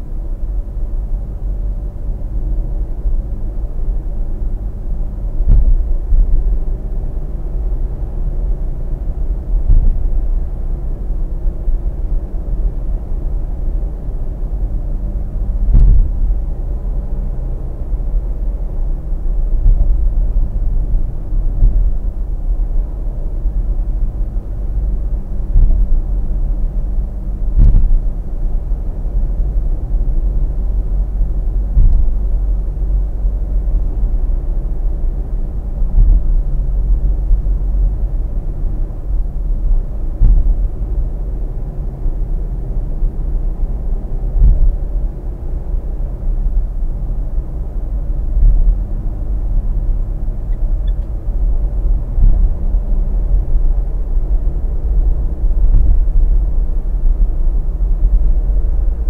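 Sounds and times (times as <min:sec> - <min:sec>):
car road and tyre rumble: 0:00.0 - 0:59.0.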